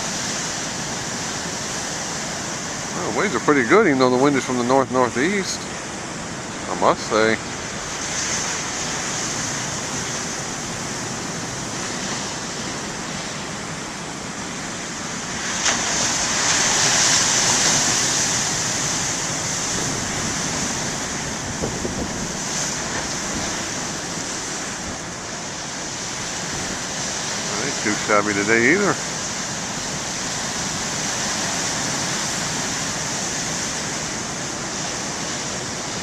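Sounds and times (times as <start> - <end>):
waves breaking on shore: 0.0 - 36.0.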